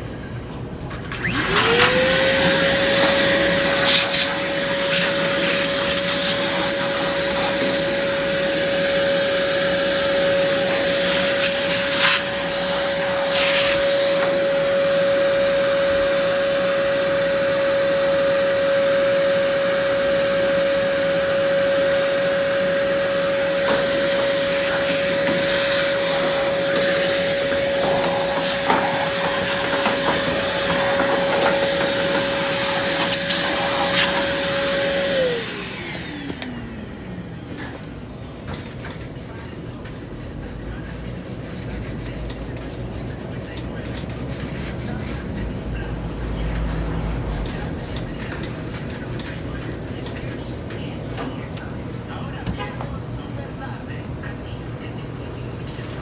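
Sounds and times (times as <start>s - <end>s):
vacuum cleaner motor whine: 0.9s - 56.0s.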